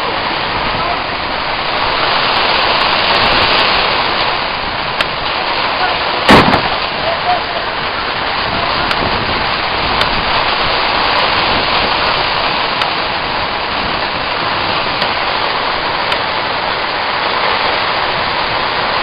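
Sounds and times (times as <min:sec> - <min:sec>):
heavy rain on streets and roofs: 0:00.0 - 0:19.0.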